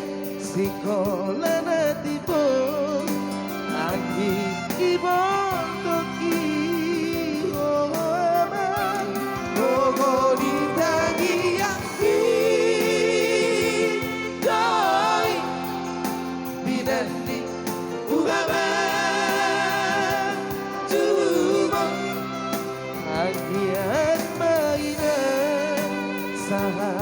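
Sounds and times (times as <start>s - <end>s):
person singing with vibrato: 0.0s - 27.0s
sustained accompaniment: 2.9s - 27.0s.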